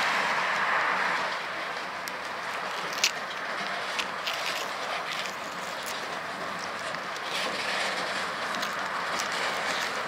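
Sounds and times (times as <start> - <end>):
steel wheels rolling on rail: 0.0 - 10.0.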